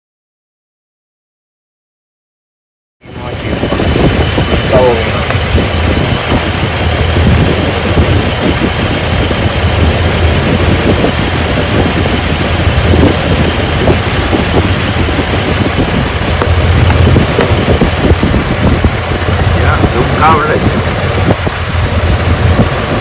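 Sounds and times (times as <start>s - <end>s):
car engine idling with misfire: 3.0s - 23.0s.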